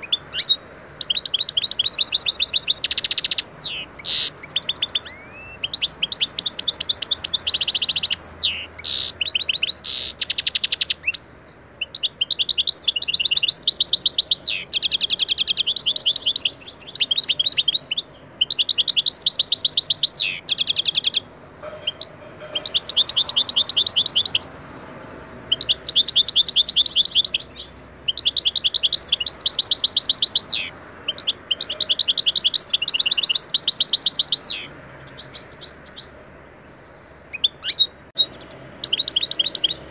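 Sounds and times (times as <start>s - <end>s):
bird singing high twittering trills: 0.0s - 36.2s, 36.9s - 39.9s.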